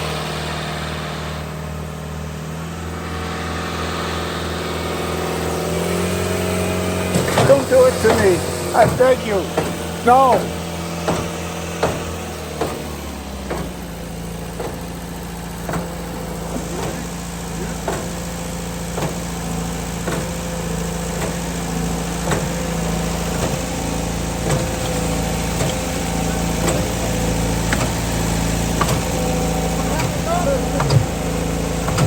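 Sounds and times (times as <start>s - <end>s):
concrete pump engine running: 0.0s - 32.0s
pump knocking: 5.6s - 32.0s.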